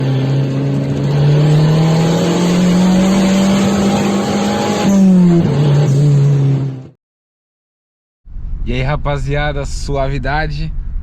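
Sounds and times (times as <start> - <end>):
car engine and exhaust droning: 0.0 - 6.9, 8.3 - 11.0.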